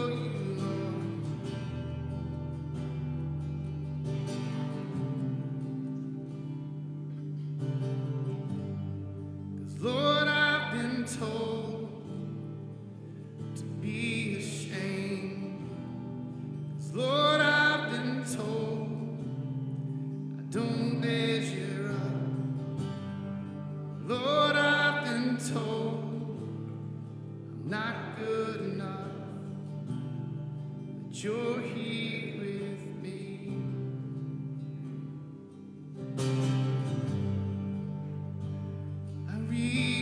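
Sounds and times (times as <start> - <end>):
worship band guitars and bass: 0.0 - 40.0.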